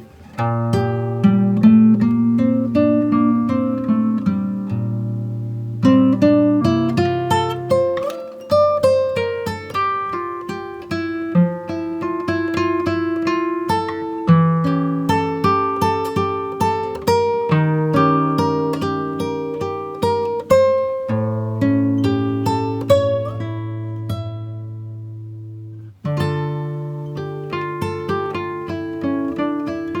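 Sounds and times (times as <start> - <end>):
acoustic guitar plucking: 0.0 - 30.0.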